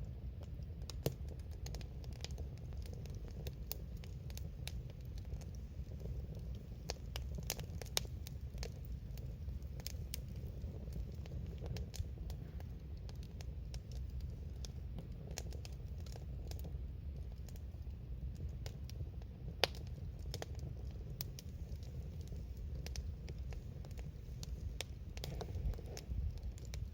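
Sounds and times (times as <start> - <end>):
campfire crackling and popping: 0.0 - 26.9
fire low rumble: 0.0 - 26.9.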